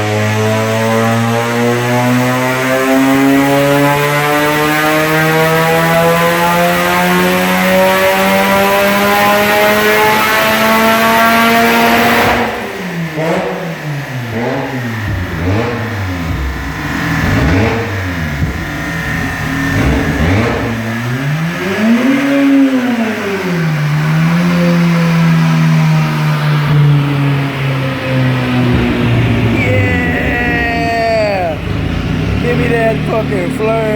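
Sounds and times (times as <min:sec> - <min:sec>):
rotary engine revving on a dyno: 0:00.0 - 0:33.9.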